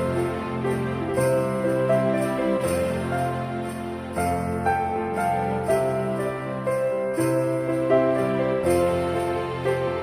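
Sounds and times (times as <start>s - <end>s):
christmas music: 0.0s - 10.0s
sleigh bells jingling: 0.0s - 10.0s.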